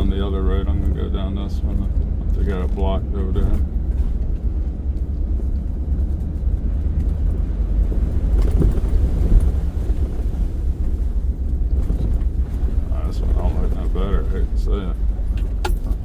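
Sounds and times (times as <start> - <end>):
road noise: 0.0 - 16.0
truck engine rumble: 0.0 - 16.0.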